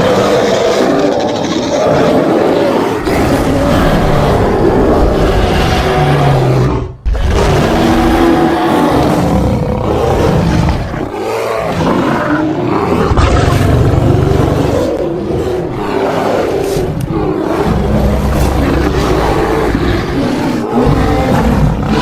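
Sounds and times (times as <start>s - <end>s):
large animal growling and roaring: 0.0s - 22.0s.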